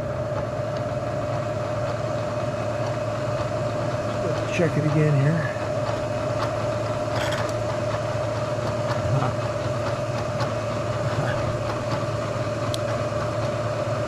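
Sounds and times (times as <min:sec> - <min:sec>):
spindle motor humming and whining: 0:00.0 - 0:14.0.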